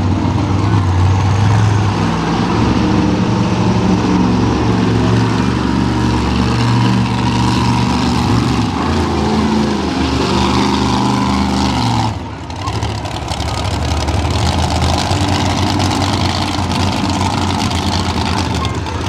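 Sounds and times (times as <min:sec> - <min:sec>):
truck engines revving: 0:00.0 - 0:19.0.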